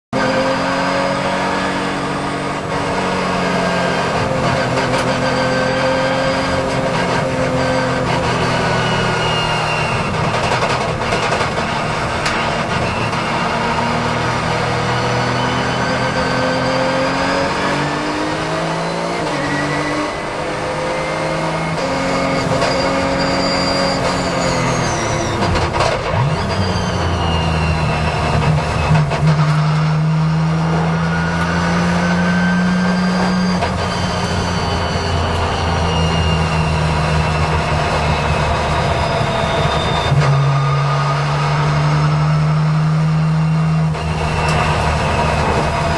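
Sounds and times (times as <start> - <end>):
race car engine from inside cabin: 0.1 - 45.9.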